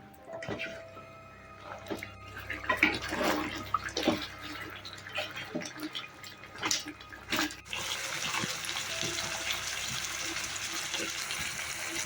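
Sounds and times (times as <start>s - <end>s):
water running and splashing: 2.3s - 12.0s.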